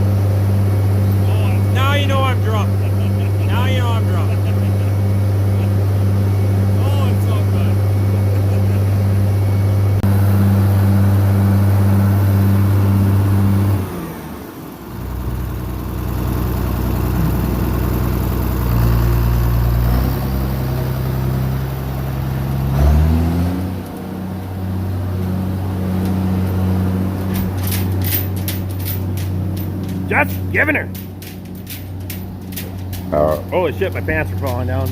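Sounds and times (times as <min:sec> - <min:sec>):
tractor engine revving: 0:00.0 - 0:34.9.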